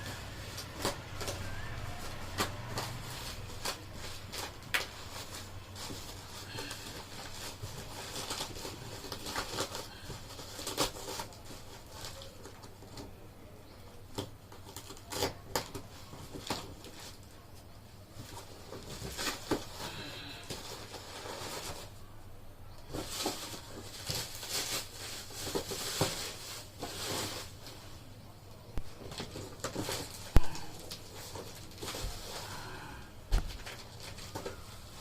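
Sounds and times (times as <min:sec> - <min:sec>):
packaging clicks and rustles: 0:00.0 - 0:22.0, 0:22.7 - 0:27.8, 0:28.7 - 0:35.0.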